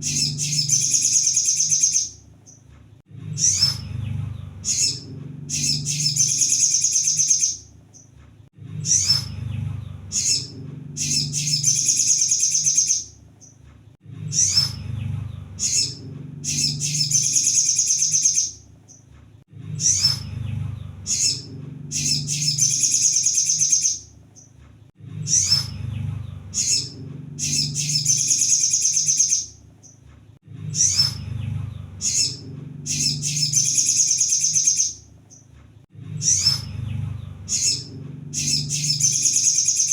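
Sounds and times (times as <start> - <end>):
bird chirps and trill: 0.0 - 13.6, 14.2 - 19.1, 19.7 - 24.6, 25.2 - 30.0, 30.6 - 35.5, 36.1 - 39.9
steady low hum: 0.0 - 39.9.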